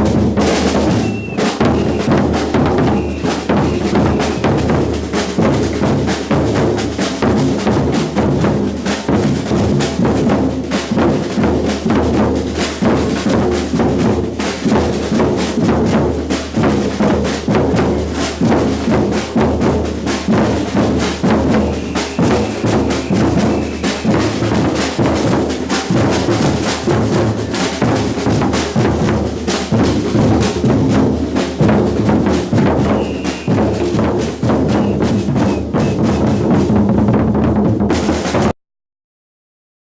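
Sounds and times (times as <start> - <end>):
samba percussion drumming: 0.0 - 38.5.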